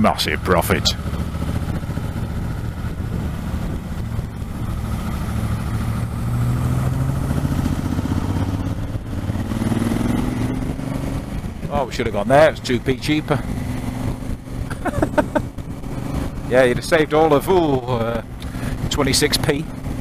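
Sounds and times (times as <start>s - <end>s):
motorcycle engine running: 0.0s - 20.0s
road rush: 0.0s - 20.0s
wind: 0.0s - 20.0s.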